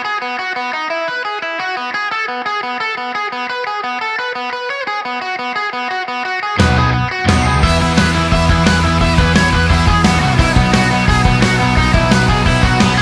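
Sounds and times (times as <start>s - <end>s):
electric guitar picking fast pattern: 0.0s - 13.0s.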